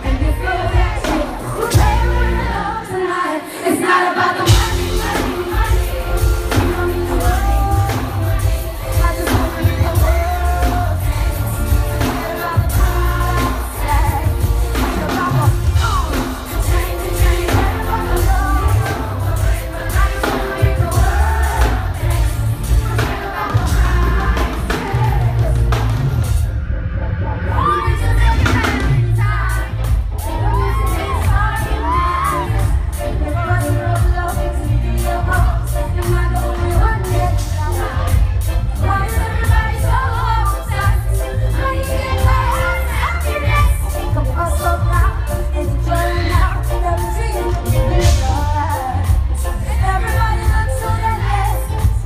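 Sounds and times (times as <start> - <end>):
woman singing into a microphone: 0.0 - 25.5, 27.5 - 52.0
female lead vocal: 0.0 - 26.0, 27.4 - 52.0
crowd noise: 0.0 - 52.0
pop band playing: 0.0 - 52.0.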